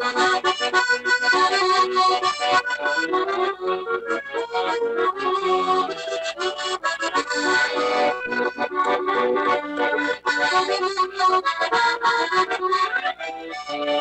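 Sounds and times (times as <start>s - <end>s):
accordion playing quick notes: 0.0s - 14.0s.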